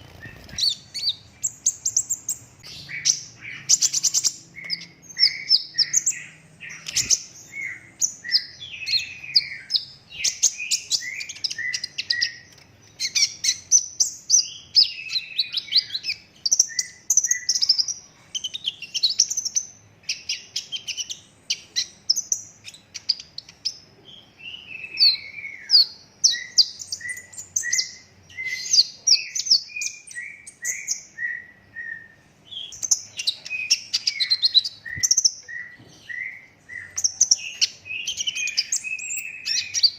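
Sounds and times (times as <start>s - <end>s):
sunbird twittering song: 0.0s - 39.9s.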